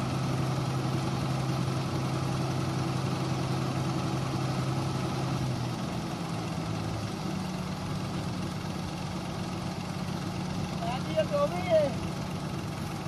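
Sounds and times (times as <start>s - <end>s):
harvester and tractor engines running: 0.0s - 13.0s.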